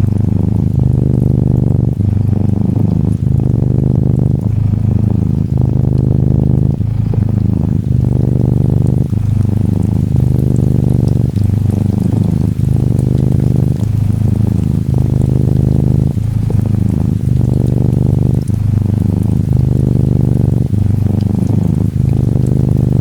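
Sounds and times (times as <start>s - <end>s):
faint rain patter: 0.0s - 23.0s
kitten purring: 0.0s - 23.0s.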